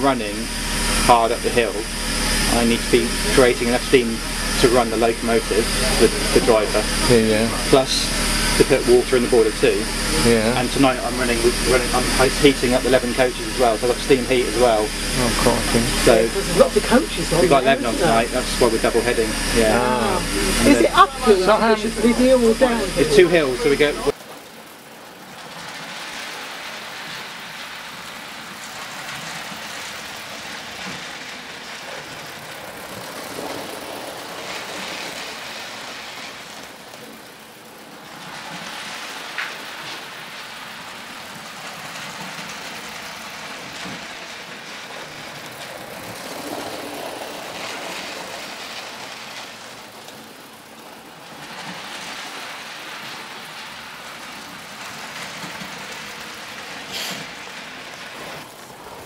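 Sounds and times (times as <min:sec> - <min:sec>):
model trains running: 0:00.0 - 0:59.0.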